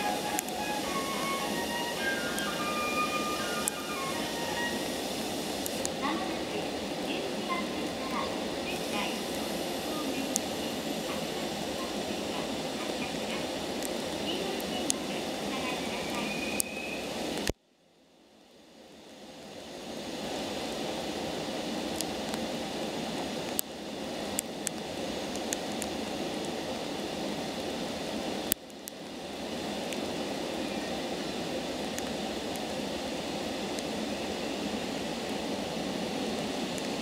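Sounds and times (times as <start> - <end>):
train equipment humming: 0.0 - 17.5, 20.4 - 37.0.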